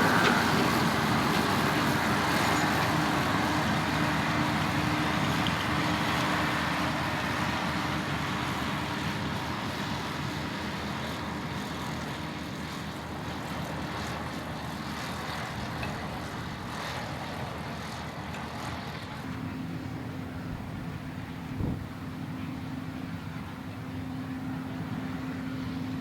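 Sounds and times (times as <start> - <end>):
vehicle engine running: 0.0 - 25.8
wind or road noise: 0.0 - 26.0.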